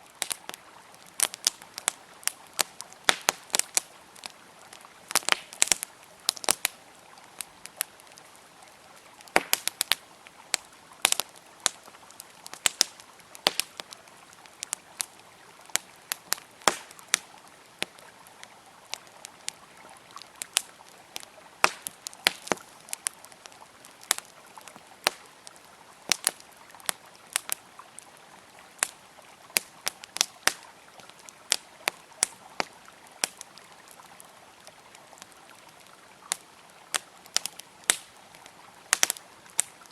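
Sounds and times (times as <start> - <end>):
campfire crackling and popping: 0.0 - 39.9
flowing river: 0.0 - 39.9.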